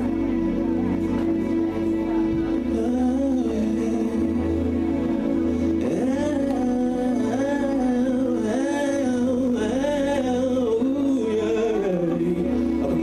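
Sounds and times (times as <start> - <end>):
held chords: 0.0 - 13.0
person singing wordless melody: 0.0 - 13.0.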